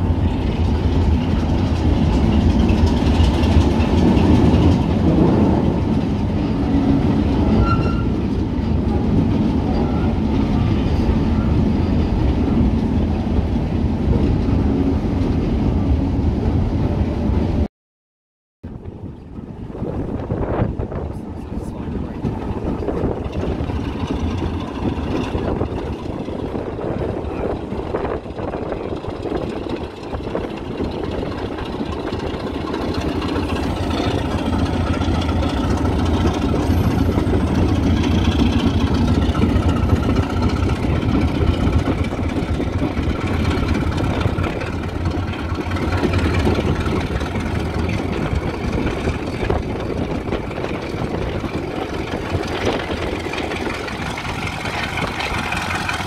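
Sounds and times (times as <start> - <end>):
diesel engine humming: 0.0 - 17.7, 18.7 - 56.0.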